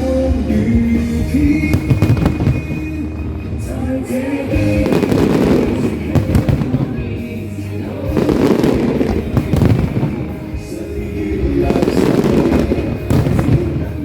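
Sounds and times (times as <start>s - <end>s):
fireworks bangs and crackling: 0.0s - 14.0s
music playing: 0.0s - 14.0s.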